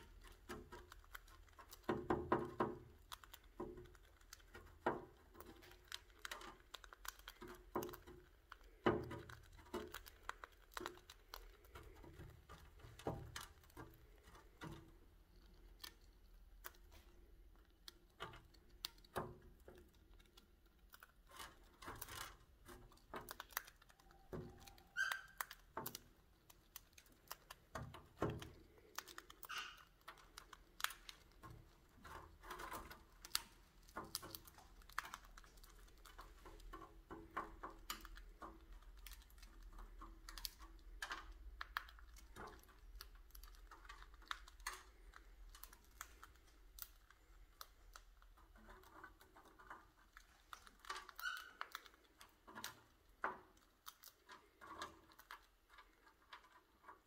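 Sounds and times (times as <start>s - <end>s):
beak clicks and seed cracking: 0.0s - 56.6s.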